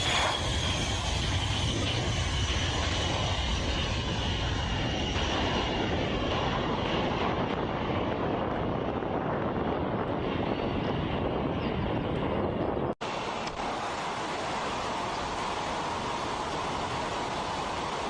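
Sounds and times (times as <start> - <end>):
aircraft engine whine: 0.0 - 18.0.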